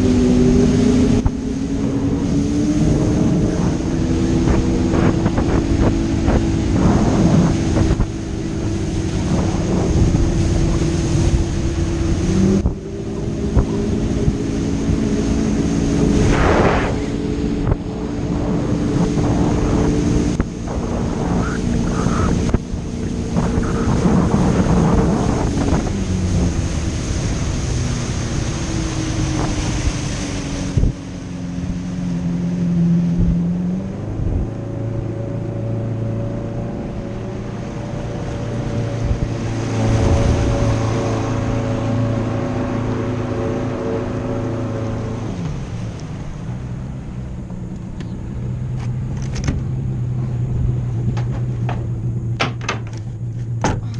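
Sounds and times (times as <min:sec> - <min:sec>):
motor engine changing pitch: 0:00.0 - 0:51.2
water noise: 0:00.0 - 0:53.9
wind noise: 0:00.0 - 0:53.9.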